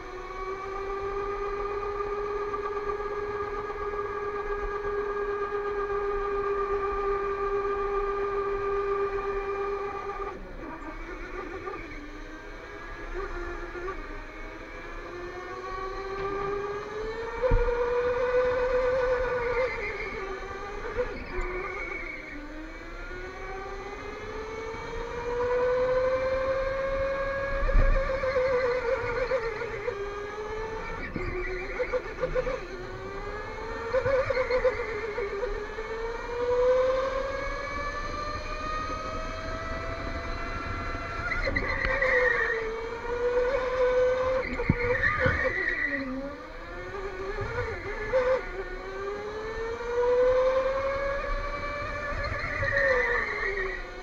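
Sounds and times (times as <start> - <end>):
electric go-kart motor whining: 0.0 - 54.0.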